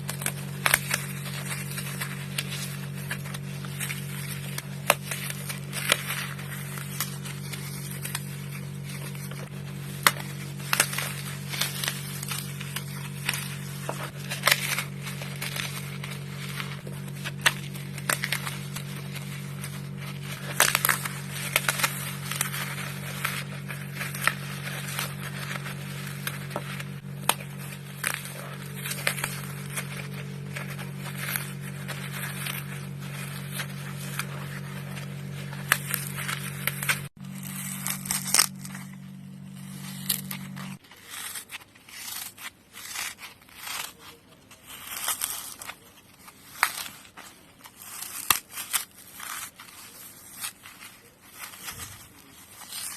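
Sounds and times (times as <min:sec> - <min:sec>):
floral foam crunching: 0:00.0 - 0:52.9
steady low hum: 0:00.0 - 0:52.9.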